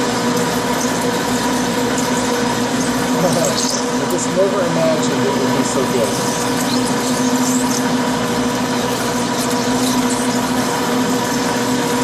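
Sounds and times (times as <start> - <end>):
metal lathe humming: 0.0 - 12.0.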